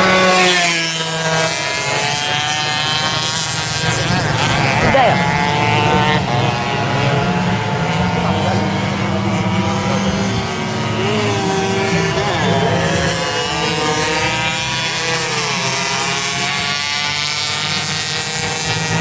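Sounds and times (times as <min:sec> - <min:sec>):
two-stroke racing motorcycle engines: 0:00.0 - 0:19.0.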